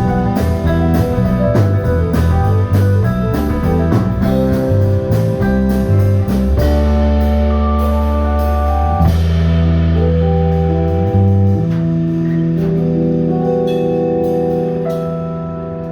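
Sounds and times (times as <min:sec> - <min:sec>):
drums: 0:00.0 - 0:15.9
guitar: 0:00.0 - 0:15.9
instrumental band playing: 0:00.0 - 0:15.9
sustained bass notes: 0:00.0 - 0:15.9.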